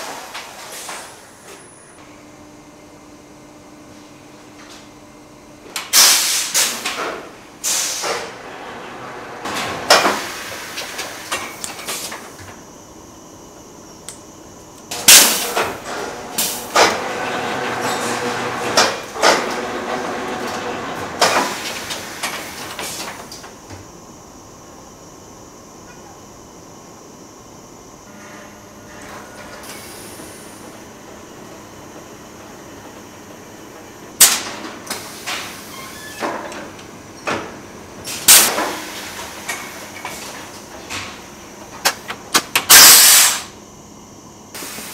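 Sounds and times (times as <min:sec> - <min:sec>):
steady background hum: 0:00.0 - 0:44.9.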